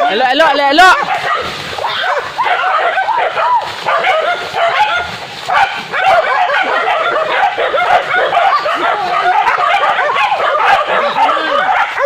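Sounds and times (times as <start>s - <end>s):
dogs yelping and barking: 0.0s - 12.0s.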